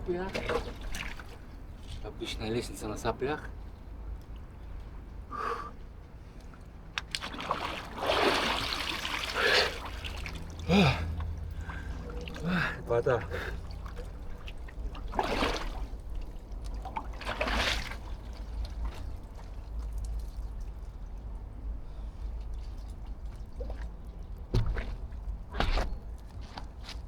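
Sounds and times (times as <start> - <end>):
water trickling and sloshing: 0.0 - 27.0.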